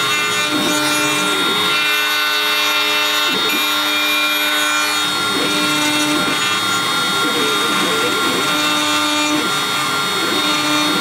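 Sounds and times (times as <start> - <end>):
cnc router milling wood: 0.0 - 11.0.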